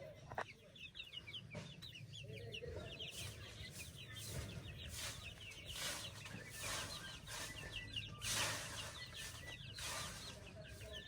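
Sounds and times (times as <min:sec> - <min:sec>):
chickens calling: 0:00.5 - 0:11.0.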